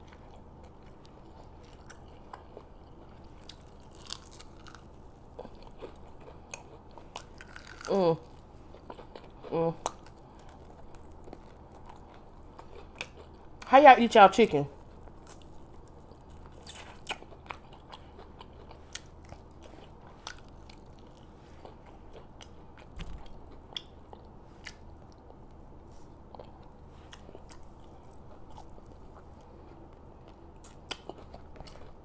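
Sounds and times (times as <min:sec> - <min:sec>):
chewing fried chicken: 0:00.0 - 0:13.9, 0:14.7 - 0:32.0.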